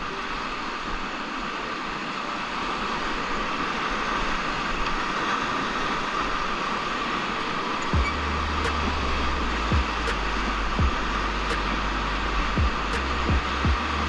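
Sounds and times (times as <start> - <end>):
whitewater rapids rushing: 0.0 - 14.0.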